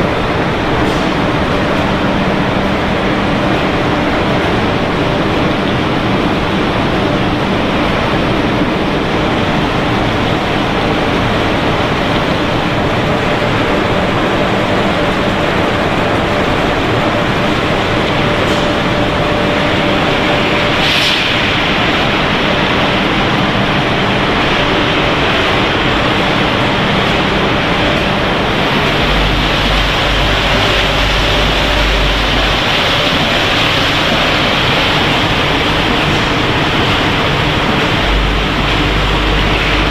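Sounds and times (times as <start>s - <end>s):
production line machinery hum: 0.0s - 39.9s.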